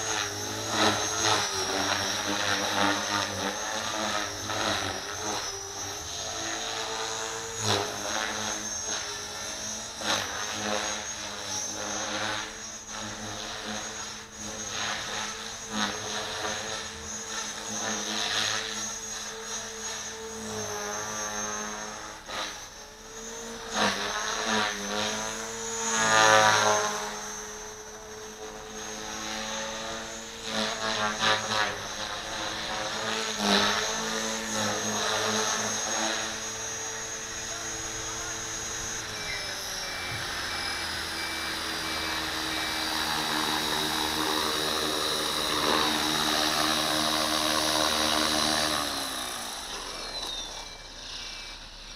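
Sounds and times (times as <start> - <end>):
electric motor whine: 0.0 - 51.9
rotor blades whirring: 0.0 - 51.9.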